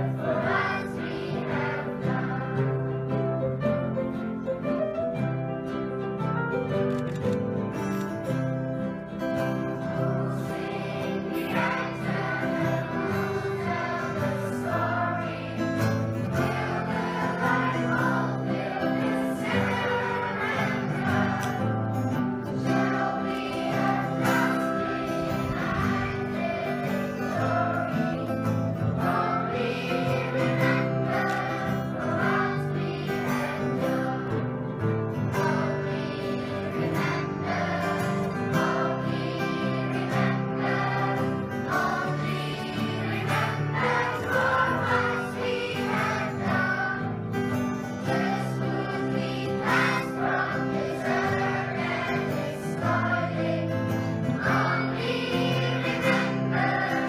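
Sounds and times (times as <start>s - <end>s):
children's choir singing: 0.0s - 4.4s, 7.8s - 57.0s
acoustic guitars strumming: 0.0s - 57.0s.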